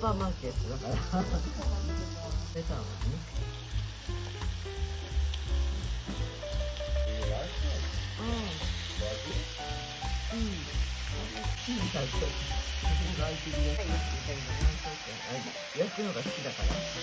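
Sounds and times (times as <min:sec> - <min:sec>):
beef sizzling in fat: 0:00.0 - 0:17.0.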